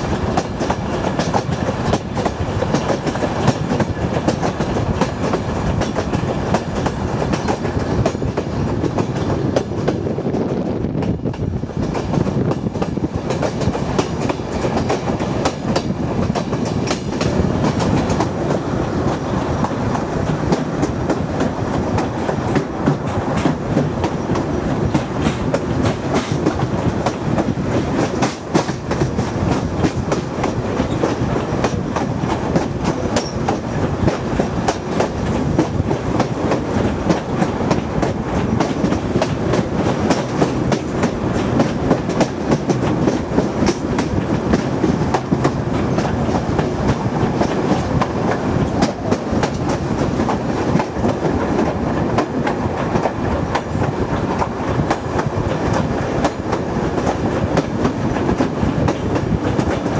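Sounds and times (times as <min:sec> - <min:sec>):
wheels clicking over rail joints: 0:00.0 - 0:10.0, 0:11.0 - 0:59.9
train rumble: 0:00.0 - 0:59.9.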